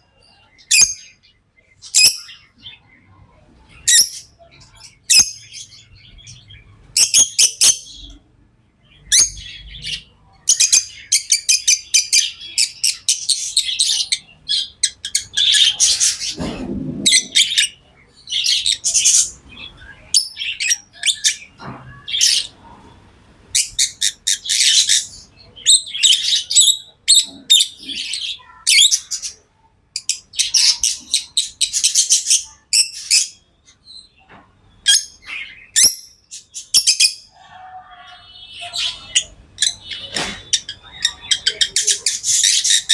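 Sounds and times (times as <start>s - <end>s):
lovebirds chirping: 0.0s - 22.9s, 23.5s - 42.9s.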